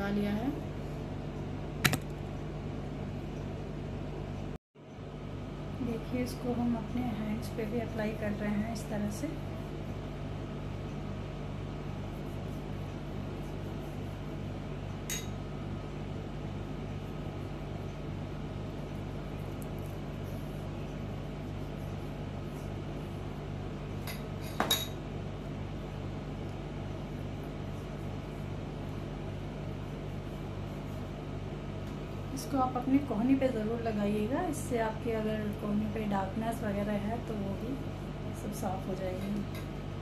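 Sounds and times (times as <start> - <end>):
low pulsing machine hum: 0.0 - 40.0.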